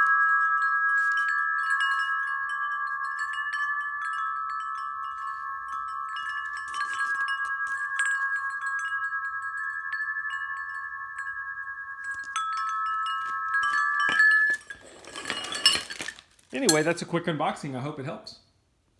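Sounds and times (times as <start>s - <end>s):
metal wind chimes ringing: 0.0s - 18.2s.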